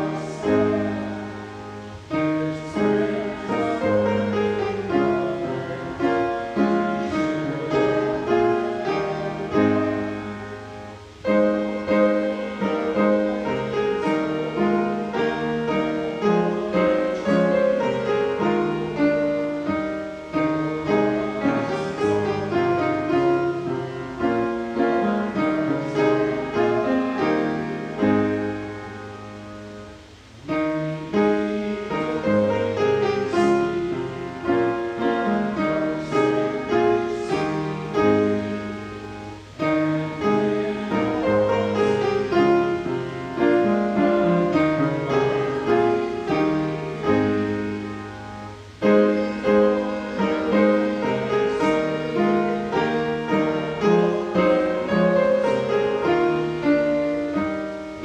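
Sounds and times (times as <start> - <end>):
piano playing hymn chords: 0.0 - 58.0.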